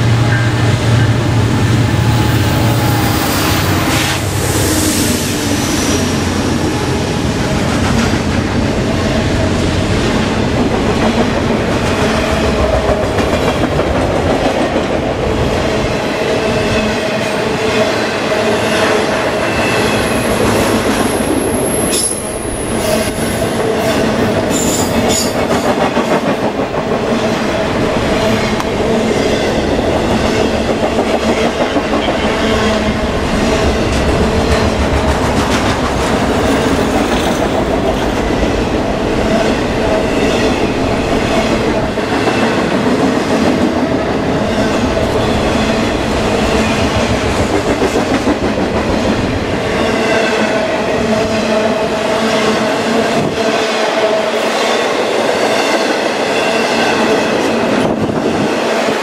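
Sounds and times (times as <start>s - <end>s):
diesel locomotive engine hum: 0.0s - 53.4s
train wheels clattering on rail: 0.0s - 59.0s.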